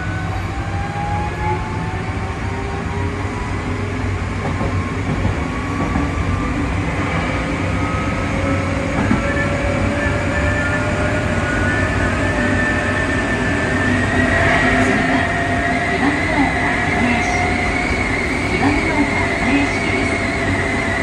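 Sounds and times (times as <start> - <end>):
wheels rumbling on rail: 1.7 - 21.0.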